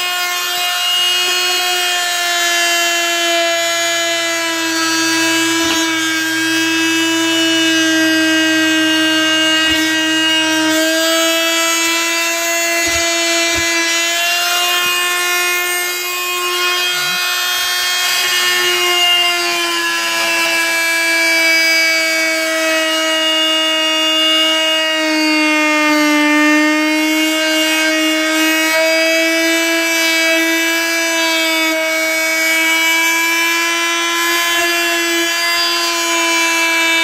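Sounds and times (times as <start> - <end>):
oscillating multi-tool cutting: 0.0 - 37.0.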